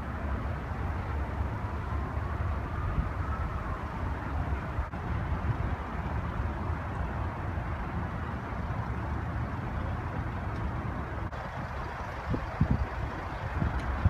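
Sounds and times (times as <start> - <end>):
helicopter rotor and turbine rumble: 0.0 - 14.0.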